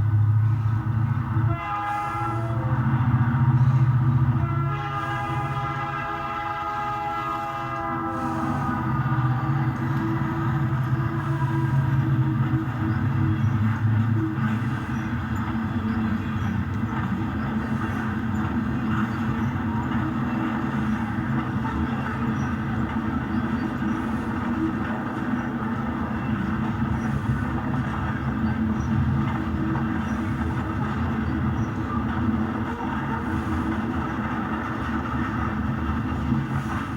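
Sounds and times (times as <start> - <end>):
model train running on track: 0.0 - 36.9.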